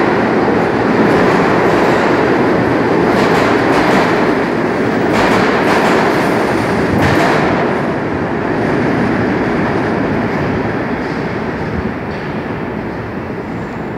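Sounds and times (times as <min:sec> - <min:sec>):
subway train running: 0:00.0 - 0:13.9.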